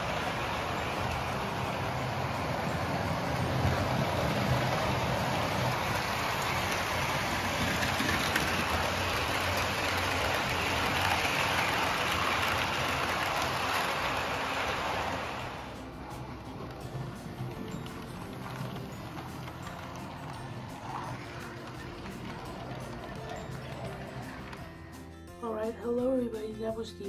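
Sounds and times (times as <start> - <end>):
model train whirring on rails: 0.0 - 25.2.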